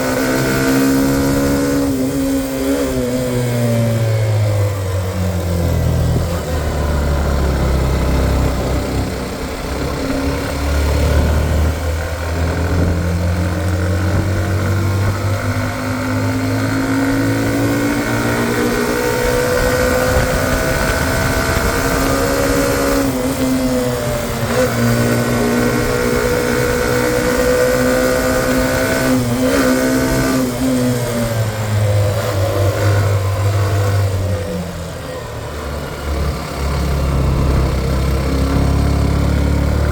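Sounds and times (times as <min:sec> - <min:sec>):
motorcycle engine pulling uphill: 0:00.0 - 0:39.9.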